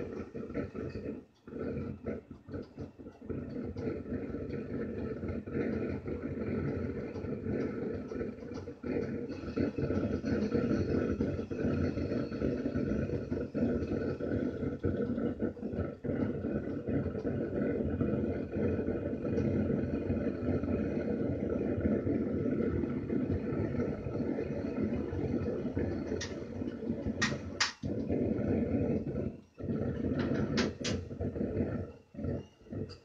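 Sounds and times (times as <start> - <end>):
gas forge burner rushing: 0.0 - 33.0.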